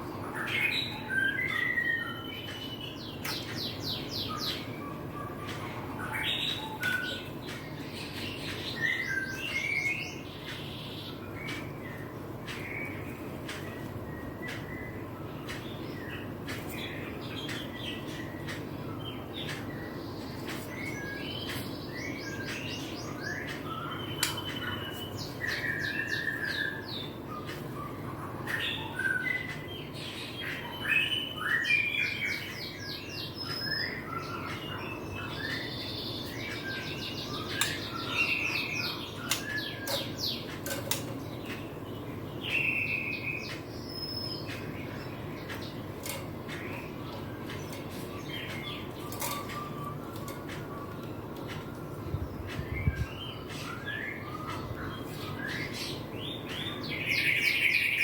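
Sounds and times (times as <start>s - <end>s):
bird singing chirps and trills: 0.0s - 58.0s
low background hum: 0.0s - 58.0s.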